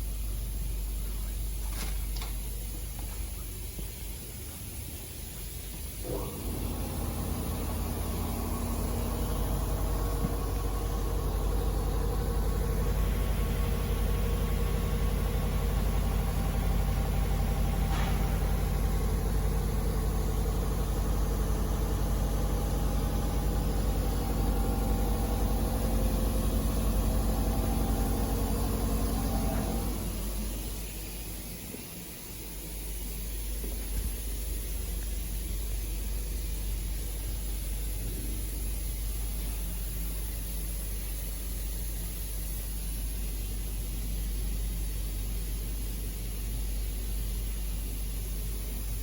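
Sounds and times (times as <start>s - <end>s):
motor humming steadily: 0.0s - 49.0s.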